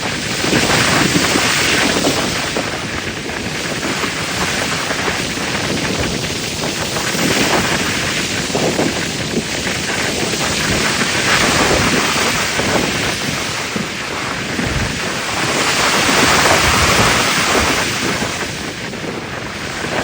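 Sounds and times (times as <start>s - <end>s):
ocean waves washing over pier: 0.0s - 20.0s
wind buffeting microphone: 0.0s - 20.0s.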